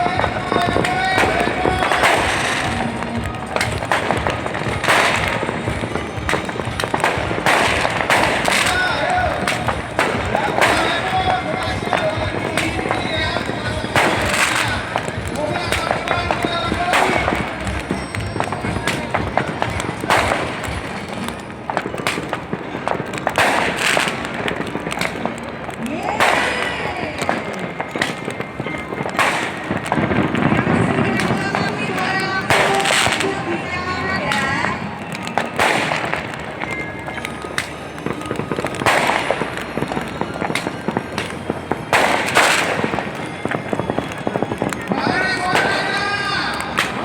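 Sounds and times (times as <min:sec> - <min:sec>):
fireworks bangs: 0:00.0 - 0:47.0
fireworks crackling: 0:00.0 - 0:47.0.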